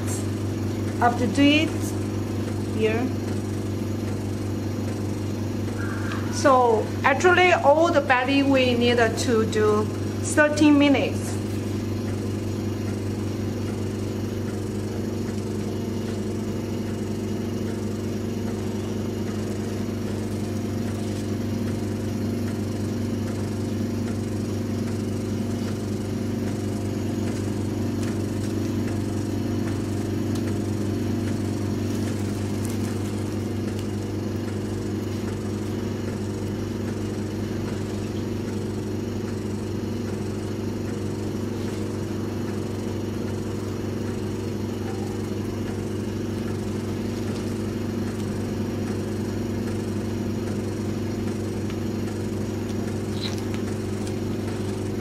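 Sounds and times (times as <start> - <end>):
suction machine motor humming: 0.0 - 55.0.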